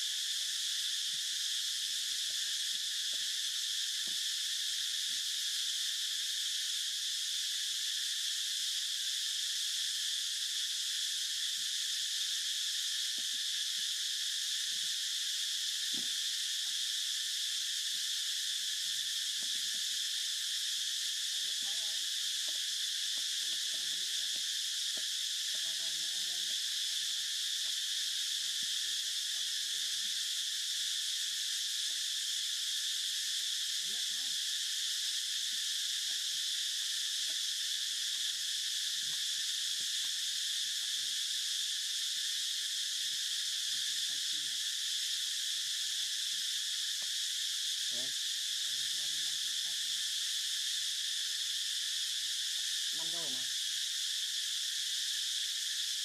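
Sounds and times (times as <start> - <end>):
forest insects chorus: 0.0 - 56.0.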